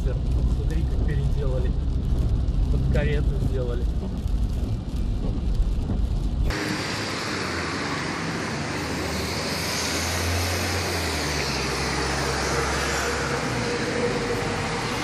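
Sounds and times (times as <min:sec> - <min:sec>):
low vehicle engine hum: 0:00.0 - 0:15.0
traffic noise: 0:00.0 - 0:15.0.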